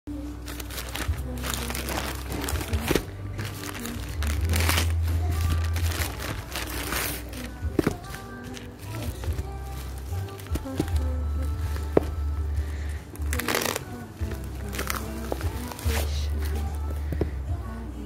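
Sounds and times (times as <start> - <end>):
music playing: 0.1 - 18.0
plastic mailer bags crinkling: 0.4 - 17.0.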